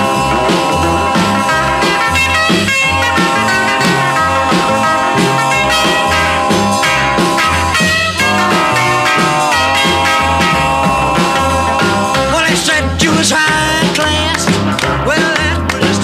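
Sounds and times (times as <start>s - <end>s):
instrumental rock music: 0.0s - 16.0s.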